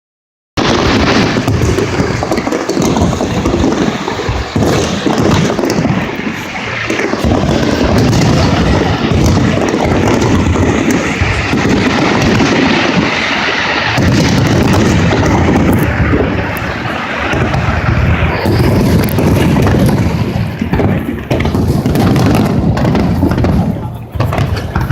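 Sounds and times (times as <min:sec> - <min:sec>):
fireworks booming barrage: 0:00.6 - 0:24.9.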